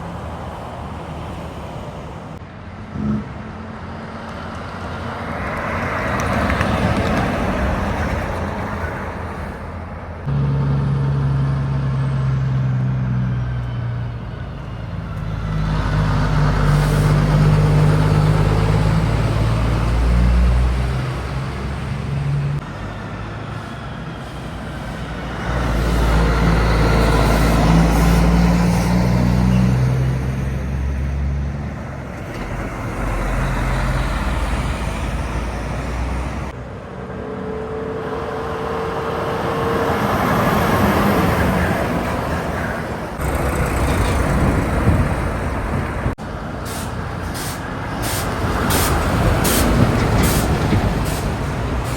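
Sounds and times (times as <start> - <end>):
heavy trucks passing on highway: 0.0 - 51.9.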